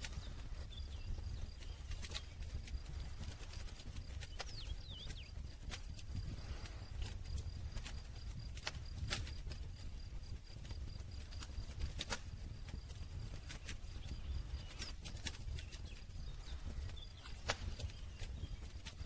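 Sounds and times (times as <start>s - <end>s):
low rumble of flames: 0.0s - 19.0s
campfire pops and snaps: 1.0s - 5.1s, 5.7s - 9.8s, 10.6s - 19.0s.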